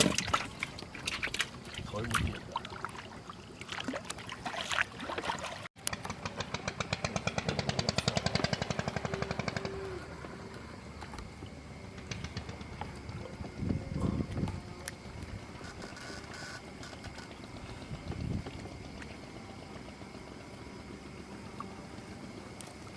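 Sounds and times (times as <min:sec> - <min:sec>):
small boat engine chugging: 0:00.0 - 0:22.9.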